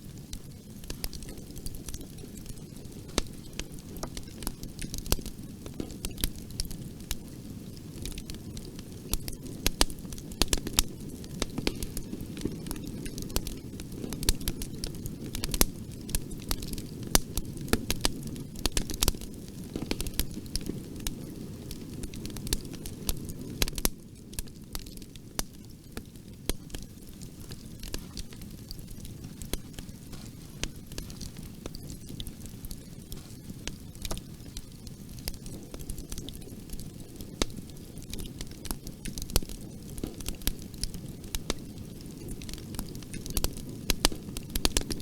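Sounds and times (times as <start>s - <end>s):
wood crackling and popping: 0.0s - 45.0s.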